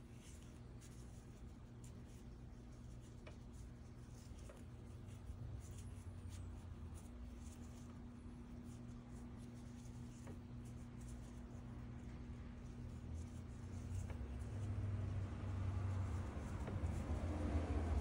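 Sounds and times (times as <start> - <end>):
cord rustling and scratching: 0.0 - 18.0
steady low hum: 0.0 - 18.0.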